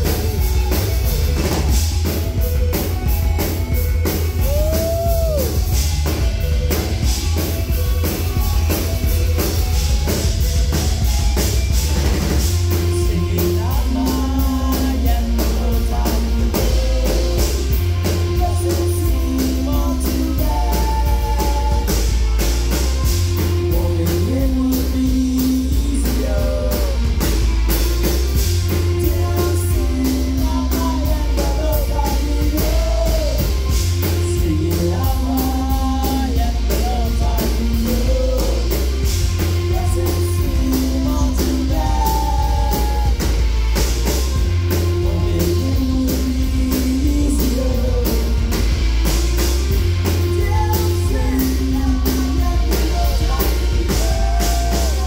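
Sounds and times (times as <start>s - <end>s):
bass line: 0.0s - 55.0s
keyboard: 0.0s - 55.0s
steady drumbeat: 0.0s - 55.0s
lead vocal: 4.4s - 5.9s, 12.0s - 55.0s.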